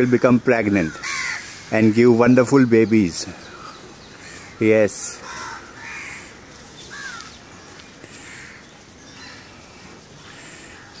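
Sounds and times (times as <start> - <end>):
outdoor background noise: 0.0 - 11.0
short bird calls: 0.0 - 11.0.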